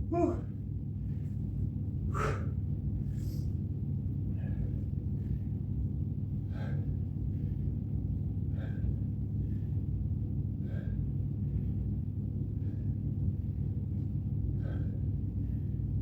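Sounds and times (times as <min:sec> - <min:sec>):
steady low rumble: 0:00.0 - 0:16.0
person breathing hard: 0:00.1 - 0:03.6, 0:04.2 - 0:16.0.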